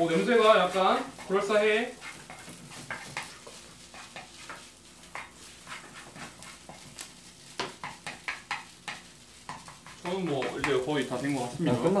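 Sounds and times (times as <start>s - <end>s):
spatula scraping frying pan: 0.0s - 12.0s.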